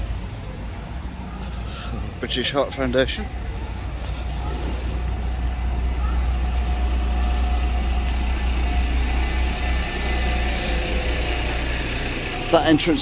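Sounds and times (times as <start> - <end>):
rushing traffic noise: 0.0 - 13.0
vehicle engine rumbling: 0.0 - 13.0.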